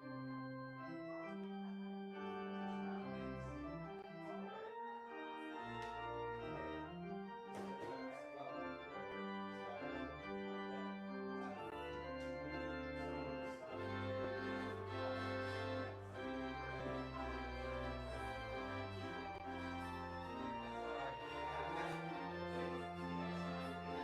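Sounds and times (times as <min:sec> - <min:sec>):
church organ playing chords: 0:00.0 - 0:24.0.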